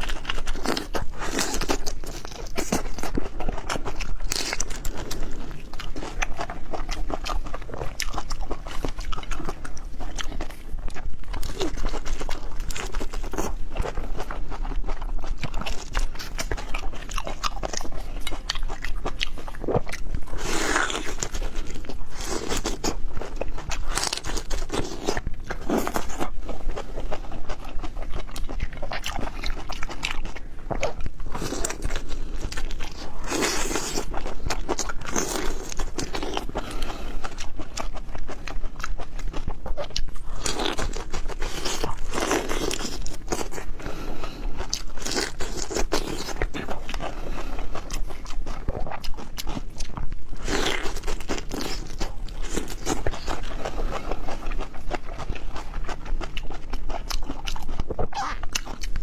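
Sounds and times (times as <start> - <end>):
crunchy biting and chewing: 0.0 - 59.0.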